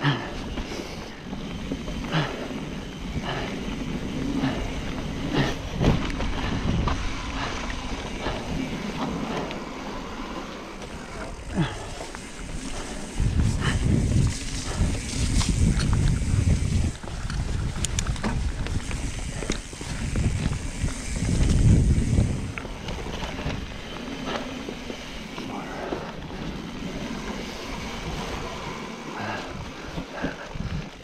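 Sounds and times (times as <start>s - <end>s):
bike clicks and rattles: 0.0s - 31.0s
bike rolling on wet trail: 0.0s - 31.0s
wind buffeting microphone: 0.4s - 31.0s.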